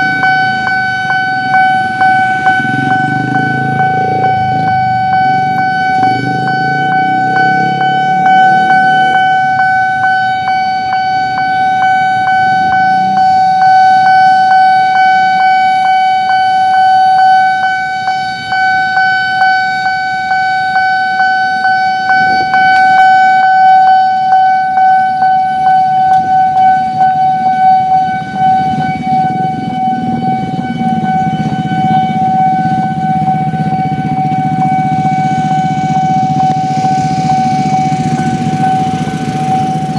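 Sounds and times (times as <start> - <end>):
level crossing alarm tone: 0.0 - 39.9
regular ticking: 0.0 - 39.9
road traffic: 0.0 - 39.9.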